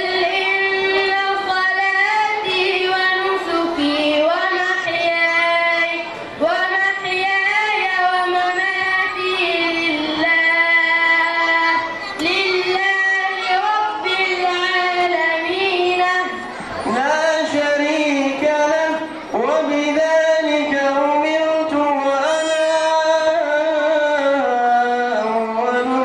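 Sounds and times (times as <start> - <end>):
boy chanting into a microphone: 0.0 - 26.0.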